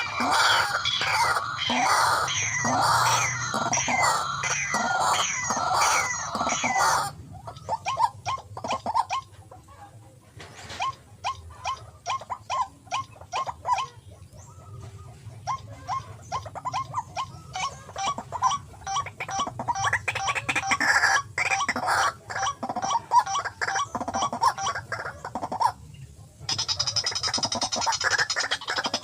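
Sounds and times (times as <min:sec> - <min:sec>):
bird harsh calls: 0:00.0 - 0:09.4, 0:10.6 - 0:25.9, 0:26.5 - 0:29.0.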